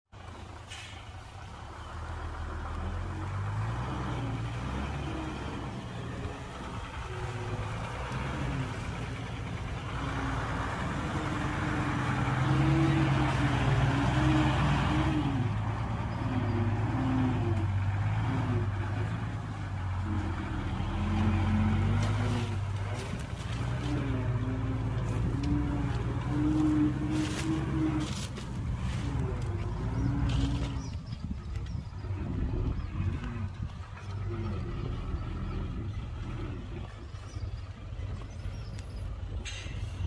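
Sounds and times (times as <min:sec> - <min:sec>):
heavy diesel engine revving: 0:00.2 - 0:40.0.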